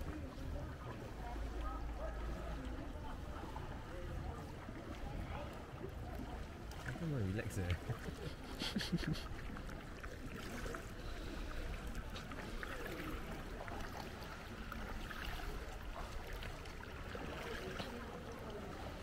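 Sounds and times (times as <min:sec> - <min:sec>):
paddle splashes: 0:00.0 - 0:19.0
water lapping and trickling: 0:00.0 - 0:19.0.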